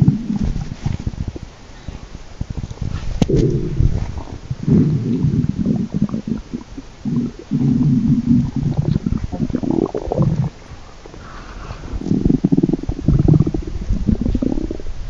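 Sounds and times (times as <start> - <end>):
stomach growling: 0.0 - 14.9.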